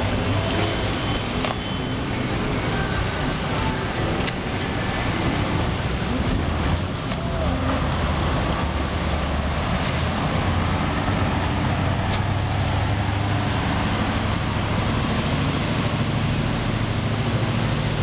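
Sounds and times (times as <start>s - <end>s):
churning boat wake: 0.0s - 18.0s.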